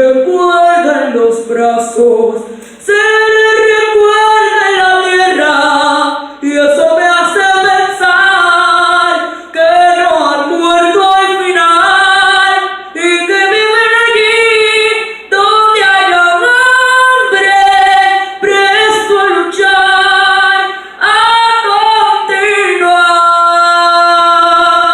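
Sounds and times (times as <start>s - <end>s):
girl singing unaccompanied: 0.0s - 24.9s.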